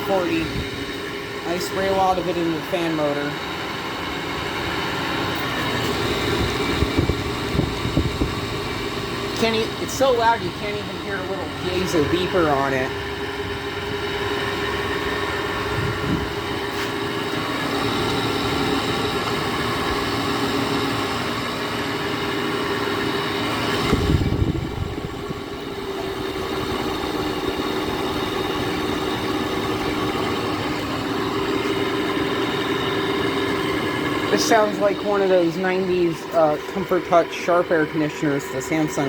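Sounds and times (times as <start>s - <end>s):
window air conditioner running: 0.0s - 39.0s.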